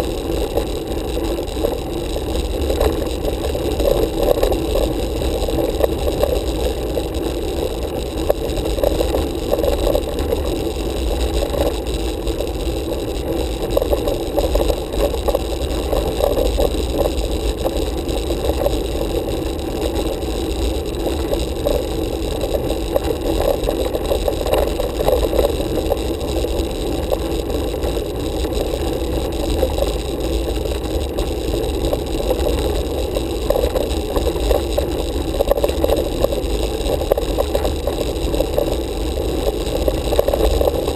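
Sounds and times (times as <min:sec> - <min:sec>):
bicycle tyres on tarmac: 0:00.0 - 0:40.9.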